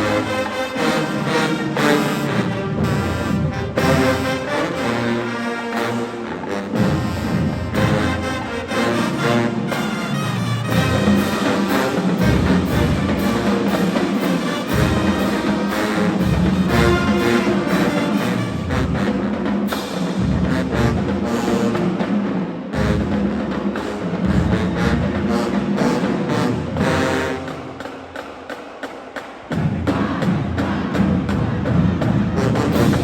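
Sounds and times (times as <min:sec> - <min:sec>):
heavy low brass and drums: 0:00.0 - 0:33.0
marching band playing: 0:00.0 - 0:33.0.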